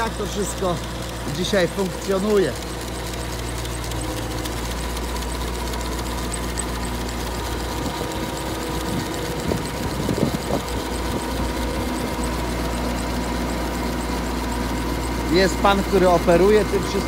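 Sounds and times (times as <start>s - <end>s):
boat machinery humming and clattering: 0.0s - 17.0s.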